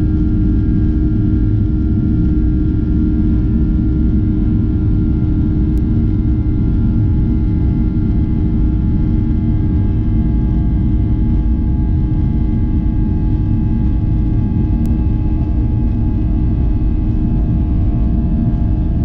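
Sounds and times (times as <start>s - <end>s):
jet engines low rumble: 0.0s - 19.0s.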